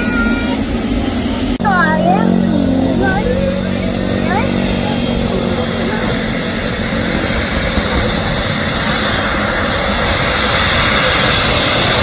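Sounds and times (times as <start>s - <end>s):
jet engines at taxi thrust: 0.0s - 12.0s.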